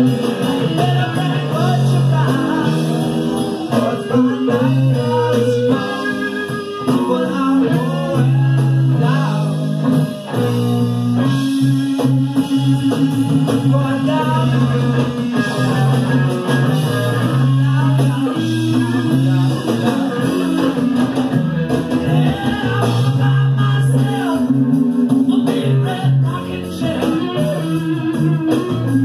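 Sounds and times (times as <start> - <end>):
bass and drums: 0.0 - 29.0
electric guitar solo: 0.0 - 29.0.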